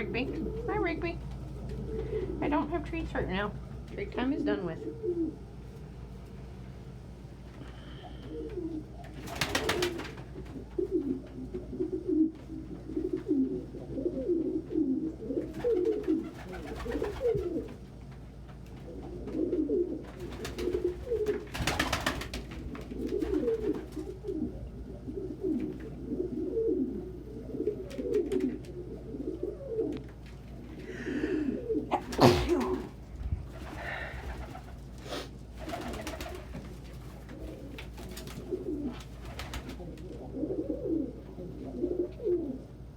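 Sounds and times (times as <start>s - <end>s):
pigeons cooing: 0.0s - 3.2s, 4.4s - 5.8s, 7.6s - 42.9s.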